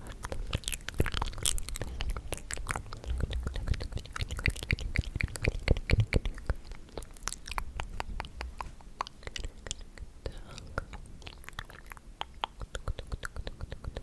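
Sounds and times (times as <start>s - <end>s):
mouth clicks and smacks: 0.0s - 14.0s.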